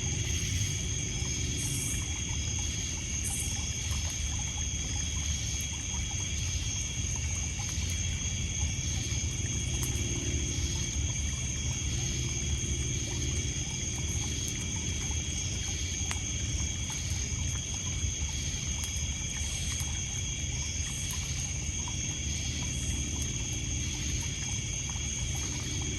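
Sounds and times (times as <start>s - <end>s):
insects trilling: 0.0s - 25.9s
water lapping on pebbles: 0.0s - 25.9s.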